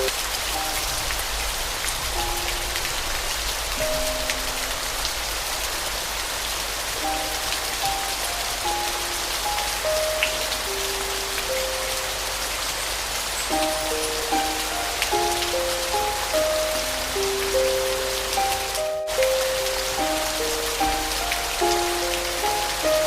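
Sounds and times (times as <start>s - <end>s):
soft piano notes: 0.0s - 23.0s
steady rain: 0.0s - 23.0s.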